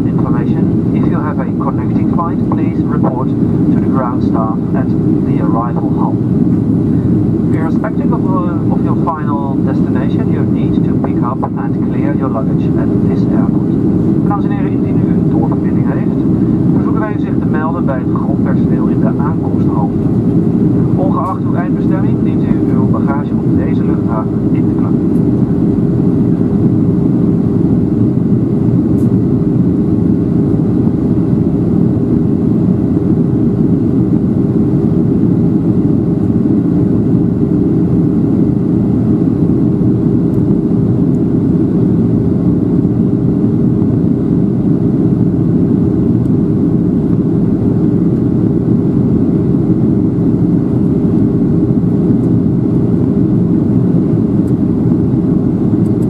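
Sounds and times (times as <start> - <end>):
airplane cabin engine roar: 0.0 - 56.0.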